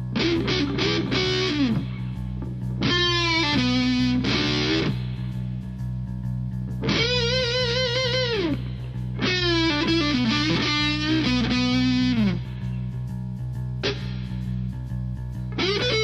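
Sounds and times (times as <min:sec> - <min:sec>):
electric guitar with vibrato: 0:00.0 - 0:05.7, 0:06.8 - 0:13.1, 0:13.8 - 0:16.0.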